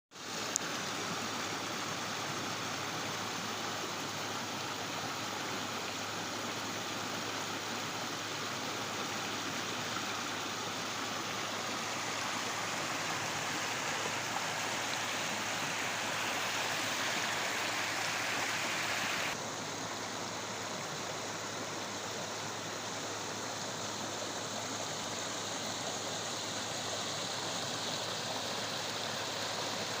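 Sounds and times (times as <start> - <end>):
stream water flowing: 0.2 - 30.0.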